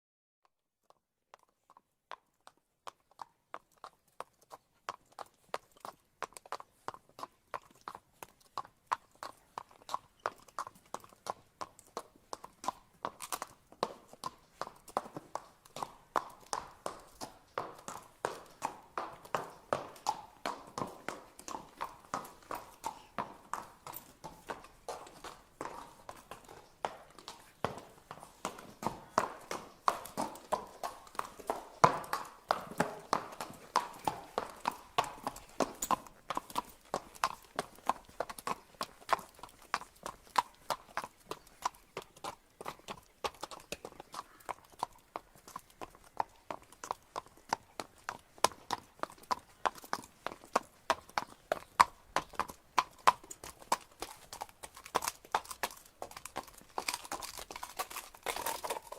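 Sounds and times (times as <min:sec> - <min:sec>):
horse hooves on hard ground: 0:00.9 - 0:58.9.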